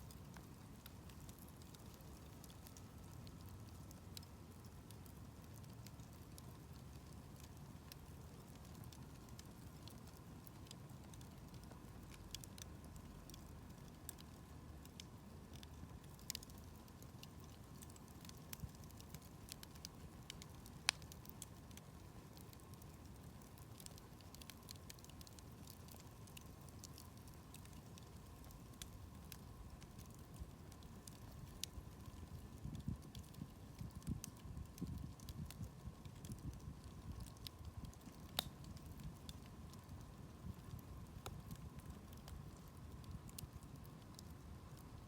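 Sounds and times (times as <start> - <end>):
campfire crackling: 0.0 - 45.0
fire pops: 5.0 - 44.3.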